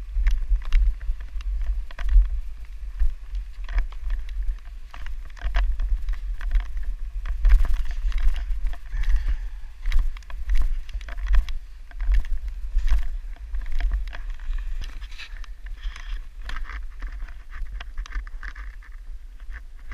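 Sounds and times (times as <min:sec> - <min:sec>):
snow crunching and scraping: 0:00.0 - 0:19.9
wind buffeting microphone: 0:00.0 - 0:19.9.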